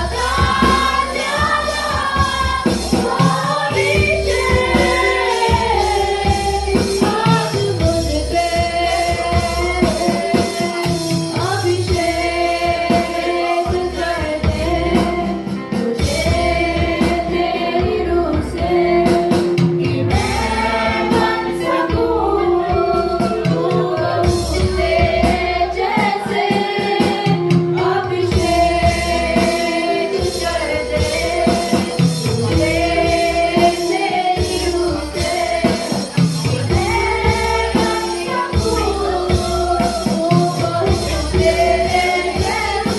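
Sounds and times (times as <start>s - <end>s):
band playing: 0.0s - 42.9s
people singing worship song: 0.0s - 42.9s.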